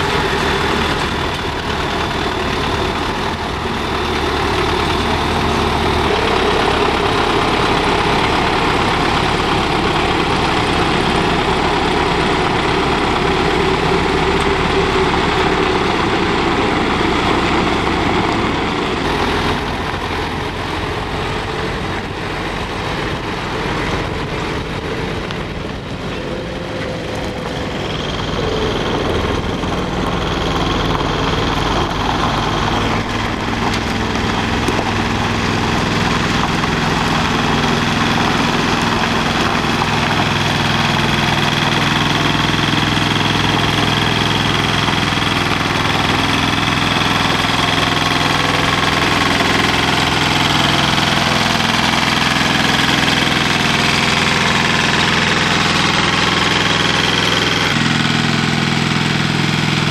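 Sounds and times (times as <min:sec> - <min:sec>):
diesel lorry engine idling: 0:00.0 - 0:59.9.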